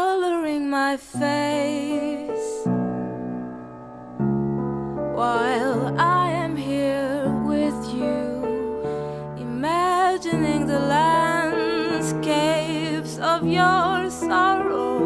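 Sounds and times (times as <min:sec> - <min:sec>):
sustained piano chords: 0:01.3 - 0:15.0.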